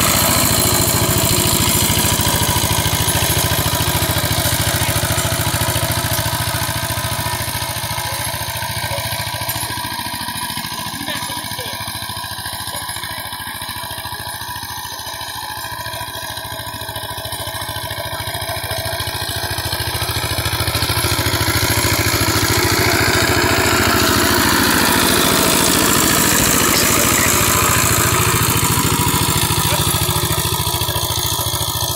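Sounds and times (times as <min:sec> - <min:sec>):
power tiller diesel engine running: 0:00.0 - 0:31.9.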